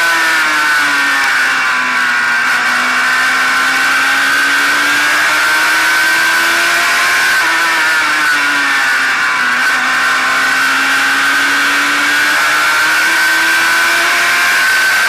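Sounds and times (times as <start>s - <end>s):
race car engine revving: 0.0s - 15.0s
road noise: 0.0s - 15.0s.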